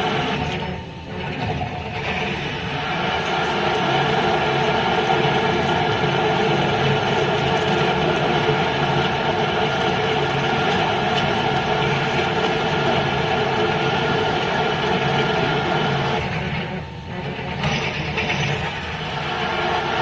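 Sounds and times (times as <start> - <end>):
drilling machine running: 0.0 - 20.0
machine whine: 0.0 - 20.0.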